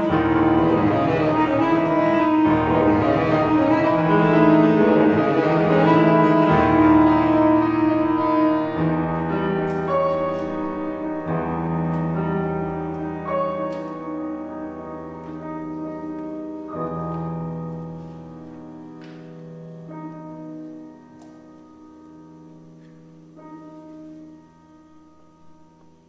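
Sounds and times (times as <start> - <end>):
piano chords: 0.0 - 26.0.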